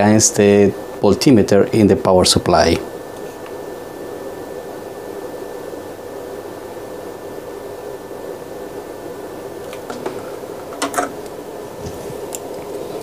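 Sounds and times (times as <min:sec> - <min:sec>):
bench equipment hum and hiss: 0:00.0 - 0:13.0.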